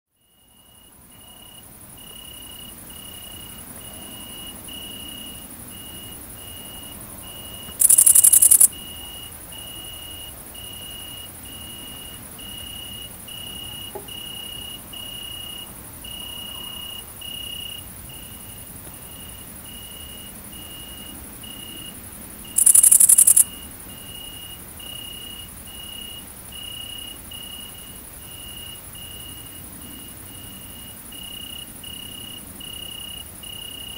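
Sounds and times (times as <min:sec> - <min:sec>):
bush-crickets high-pitched buzz: 0:00.1 - 0:33.9
lower-pitched insect chirp: 0:00.2 - 0:33.9.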